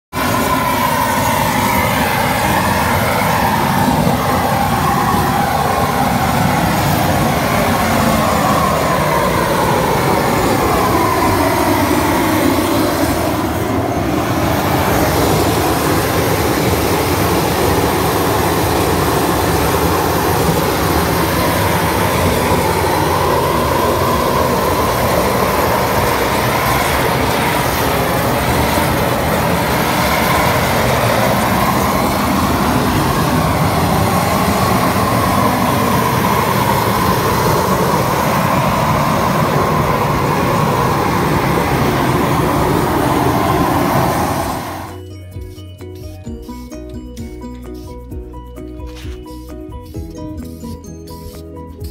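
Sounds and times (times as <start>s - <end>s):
propane torch roaring: 0.0s - 45.0s.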